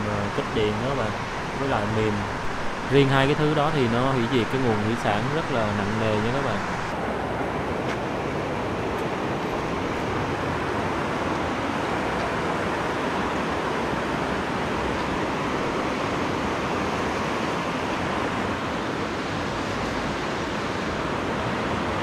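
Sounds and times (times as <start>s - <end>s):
stream water rushing over boulders: 0.0s - 22.0s.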